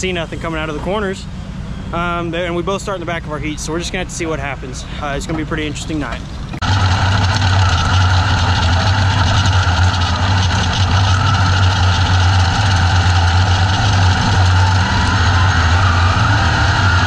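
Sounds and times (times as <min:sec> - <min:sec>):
race car engine running steadily: 0:00.0 - 0:17.0.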